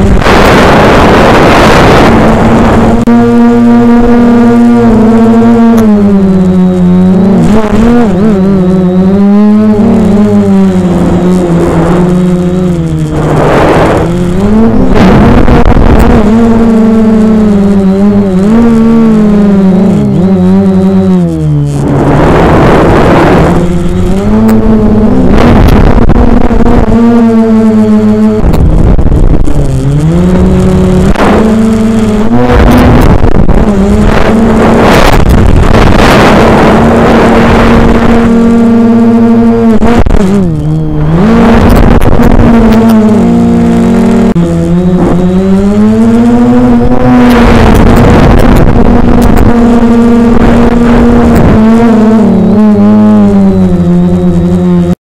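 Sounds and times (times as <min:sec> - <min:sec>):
wind rush: 0:00.0 - 0:05.4, 0:09.7 - 0:20.3, 0:21.7 - 0:53.9
quadcopter motors whining: 0:00.0 - 0:55.0.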